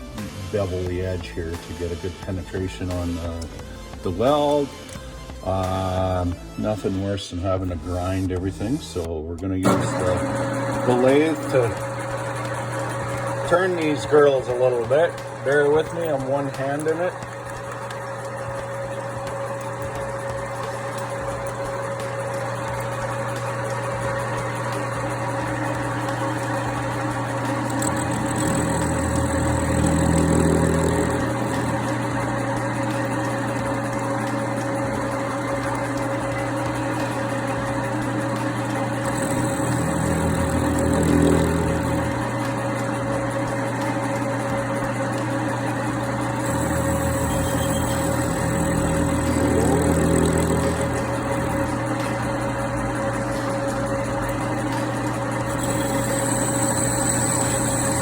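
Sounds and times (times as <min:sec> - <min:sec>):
metal lathe humming: 0:00.0 - 0:06.7, 0:09.0 - 0:58.0
high cutting whine: 0:07.5 - 0:58.0.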